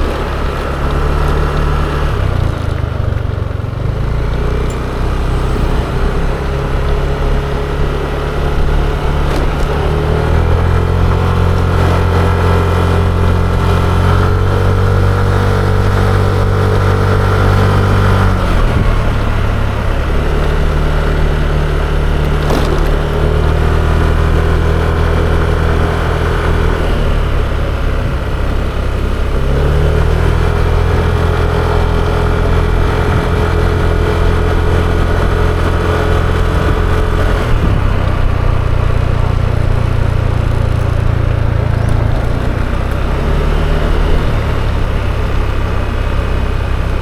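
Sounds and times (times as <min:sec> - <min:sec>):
scooter engine running: 0:00.0 - 0:47.0.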